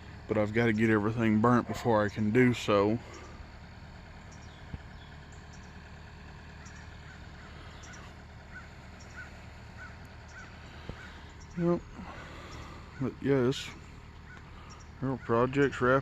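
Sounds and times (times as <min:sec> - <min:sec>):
distant bird calls: 0:00.0 - 0:16.0
low background rumble: 0:00.0 - 0:16.0.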